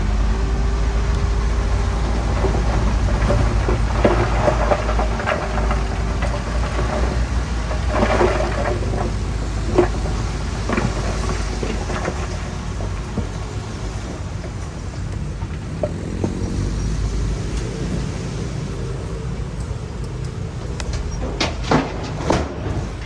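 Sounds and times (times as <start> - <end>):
heavy diesel machinery droning: 0.0 - 23.0
clanks and knocks: 1.1 - 16.8, 19.6 - 23.0.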